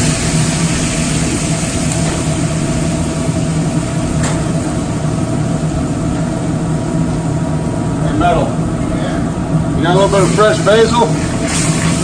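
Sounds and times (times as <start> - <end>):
gas burners and ventilation drone: 0.0 - 12.0
wine simmering in a pan: 0.0 - 12.0.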